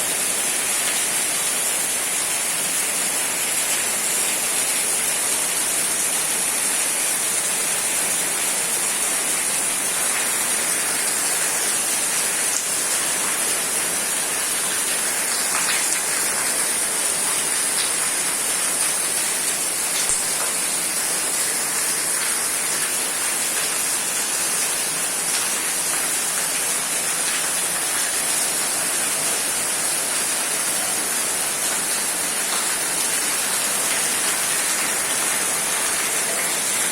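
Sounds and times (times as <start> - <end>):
rain falling: 0.1 - 36.9.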